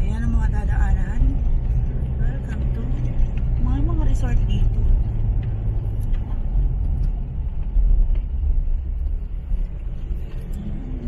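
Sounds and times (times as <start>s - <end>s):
pickup engine and tyre rumble: 0.0s - 11.0s.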